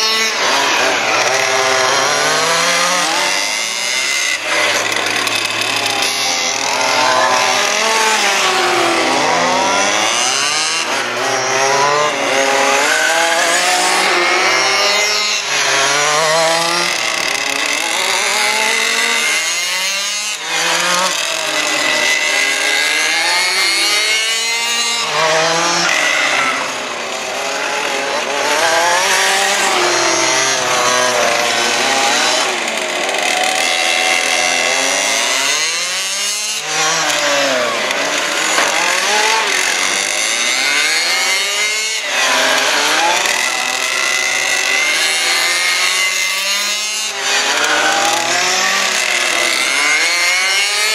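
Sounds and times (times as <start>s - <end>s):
rc car engines revving: 0.0s - 50.9s.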